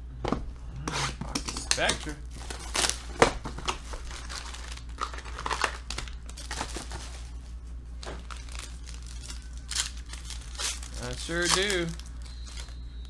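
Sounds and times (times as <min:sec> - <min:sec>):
plastic wrapping crinkling: 0:01.6 - 0:12.8.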